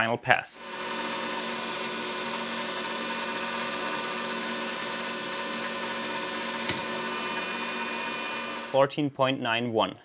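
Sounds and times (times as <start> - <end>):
metal lathe running: 0.6 - 8.8.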